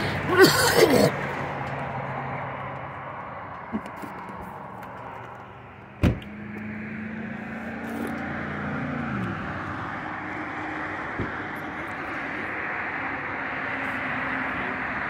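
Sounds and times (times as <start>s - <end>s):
highway traffic hum: 0.0s - 15.0s
vehicle passing by: 1.1s - 15.0s.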